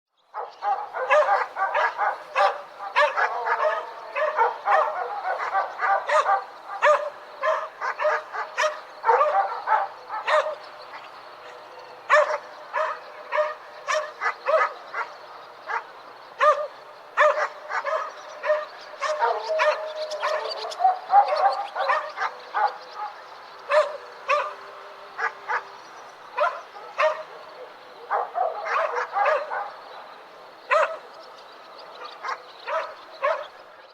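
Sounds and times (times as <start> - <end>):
distant dogs barking: 0.2 - 33.9.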